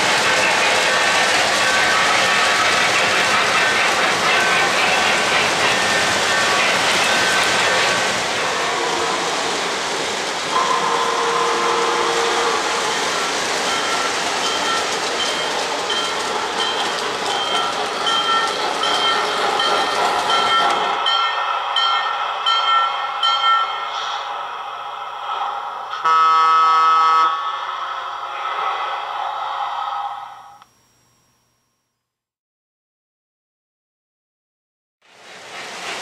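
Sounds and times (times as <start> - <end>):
model steam train running: 0.0 - 30.6, 35.0 - 36.0.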